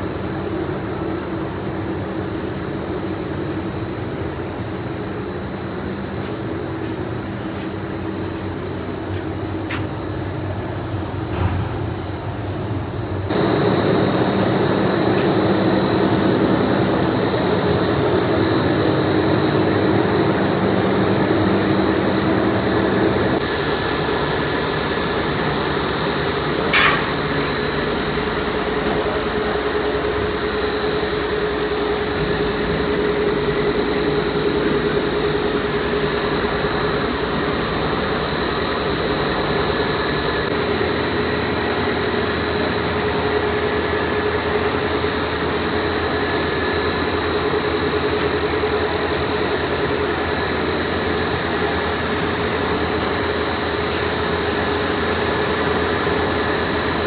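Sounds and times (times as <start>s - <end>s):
factory machinery whining and humming: 0.0s - 57.0s.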